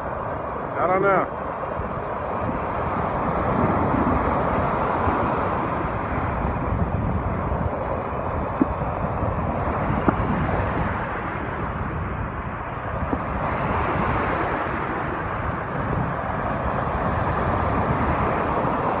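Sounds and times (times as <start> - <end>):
rushing surf-like wash: 0.0 - 19.0
wind rumbling on microphone: 0.0 - 19.0.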